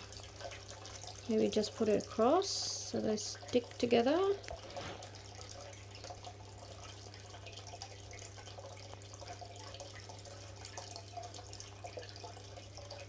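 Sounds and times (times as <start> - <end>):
aquarium filter trickling water: 0.0 - 13.0.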